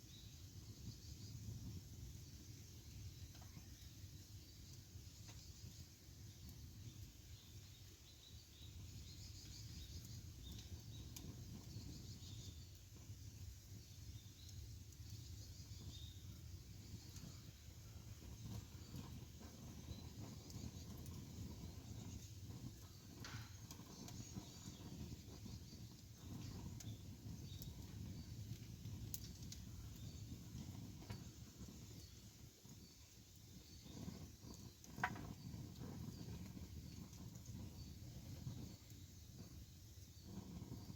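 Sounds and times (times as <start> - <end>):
campfire rumble: 0.0 - 40.9
crackles and pops of burning wood: 0.0 - 40.9.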